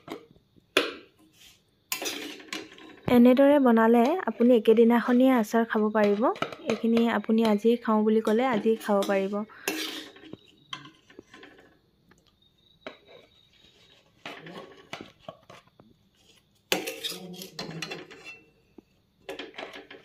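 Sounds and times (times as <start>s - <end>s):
metal spoon scraping a metal pan: 1.3s - 11.8s, 12.8s - 18.7s.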